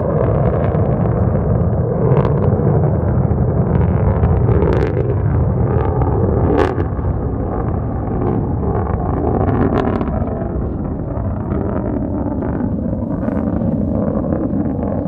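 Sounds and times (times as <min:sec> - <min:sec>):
rocket exhaust rumbling: 0:00.0 - 0:15.0.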